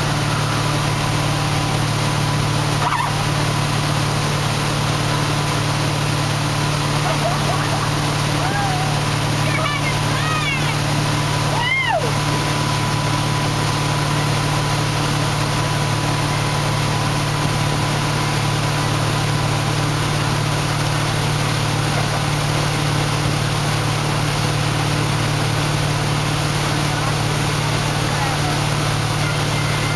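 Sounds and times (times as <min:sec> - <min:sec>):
churning water hiss: 0:00.0 - 0:29.9
motorboat engine running: 0:00.0 - 0:29.9.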